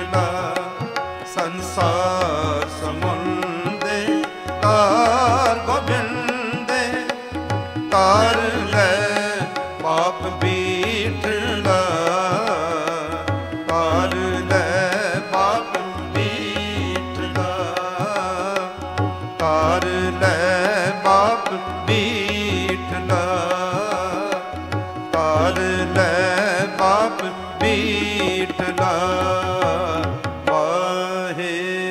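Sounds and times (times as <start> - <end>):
man singing melodic runs: 0.0 - 31.9
tabla rhythm: 0.0 - 31.9.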